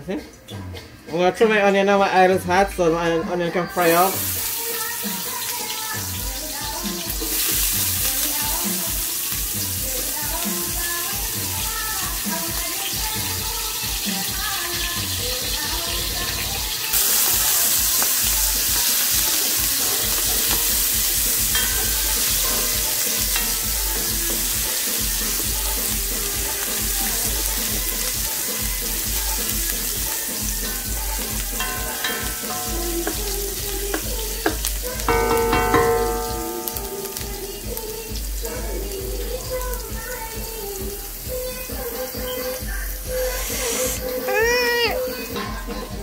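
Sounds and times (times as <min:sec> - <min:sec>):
onion sizzling in hot oil: 0:03.7 - 0:45.4.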